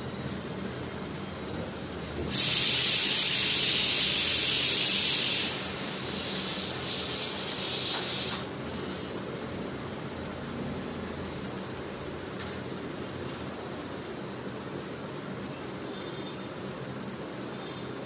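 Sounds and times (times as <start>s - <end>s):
loud steady hiss: 0.0s - 16.1s.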